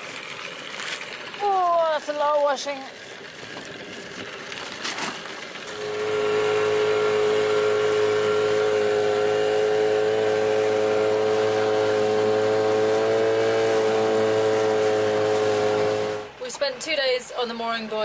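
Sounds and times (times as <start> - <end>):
small outboard motor running: 0.0 - 16.4.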